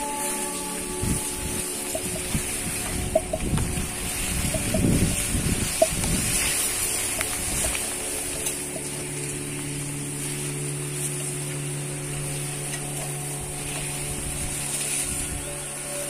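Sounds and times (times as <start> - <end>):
steady high-pitched hiss: 0.0 - 16.0
sustained low background music: 0.0 - 16.0.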